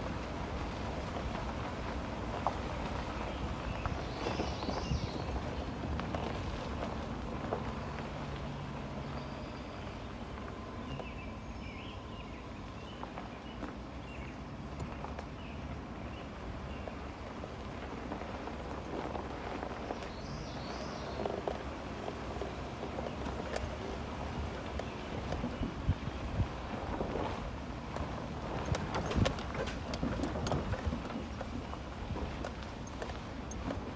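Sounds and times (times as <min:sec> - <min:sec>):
truck engine and tyres rumbling: 0:00.0 - 0:33.9.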